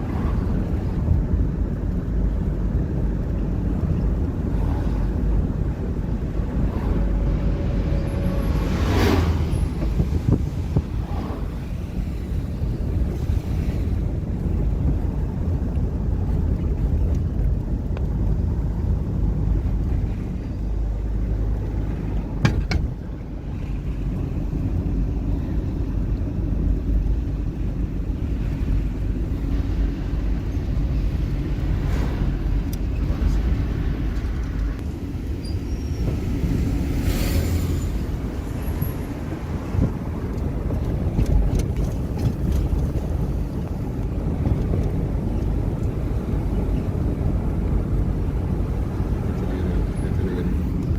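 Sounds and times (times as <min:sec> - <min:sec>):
car engine and road noise: 0:00.0 - 0:50.9.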